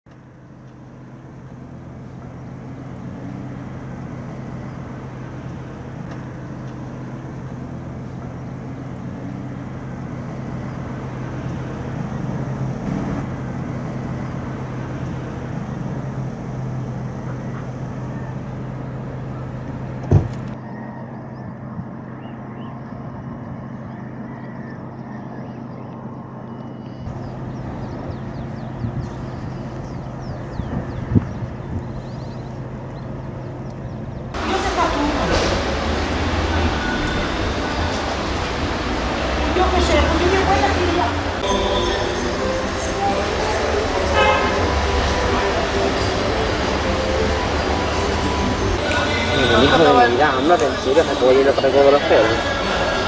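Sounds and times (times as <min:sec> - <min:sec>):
distant road traffic rumble: 0:00.1 - 0:53.0.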